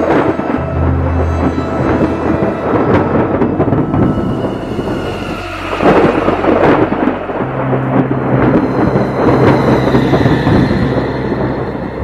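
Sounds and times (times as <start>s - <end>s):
low steady hum: 0.0s - 12.0s
thunder rumbling: 0.0s - 12.0s.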